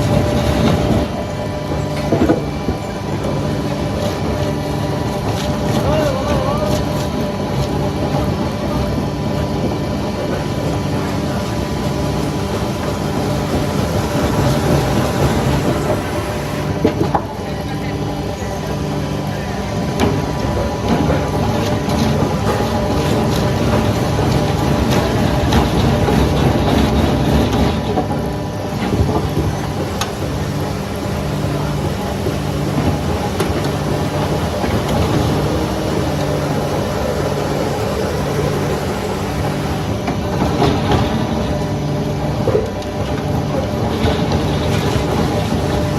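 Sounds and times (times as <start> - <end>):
heavy machinery running: 0.0 - 45.9.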